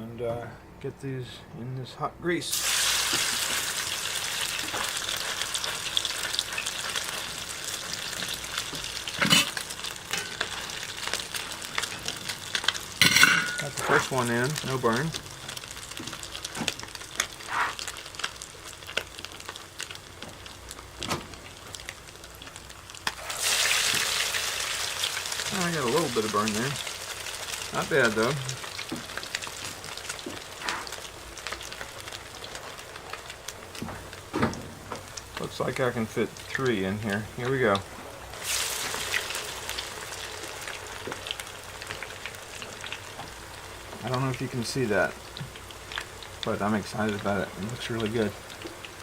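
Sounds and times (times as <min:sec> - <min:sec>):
oil crackling and popping: 0:02.5 - 0:49.0
patty sizzling in grease: 0:02.5 - 0:49.0.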